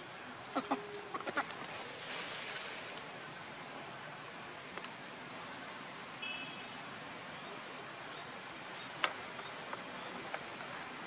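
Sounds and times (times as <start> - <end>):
steady high background hiss: 0.0 - 11.0.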